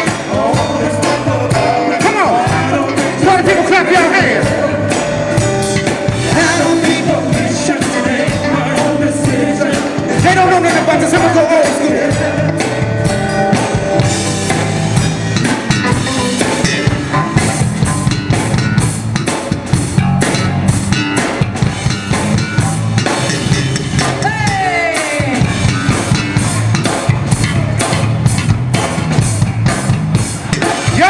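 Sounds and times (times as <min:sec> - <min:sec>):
live band instrumental groove: 0:00.0 - 0:31.0.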